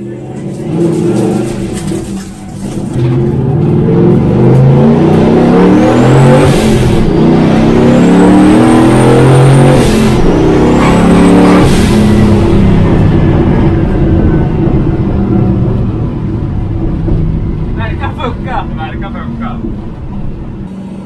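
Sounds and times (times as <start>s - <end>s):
van engine accelerating hard: 0.0s - 21.0s.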